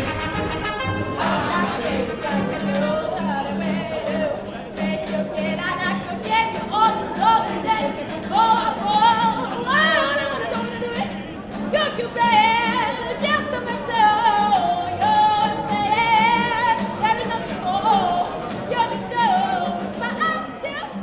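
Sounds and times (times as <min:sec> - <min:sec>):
acoustic guitar: 0:00.0 - 0:21.0
woman singing: 0:01.2 - 0:21.0.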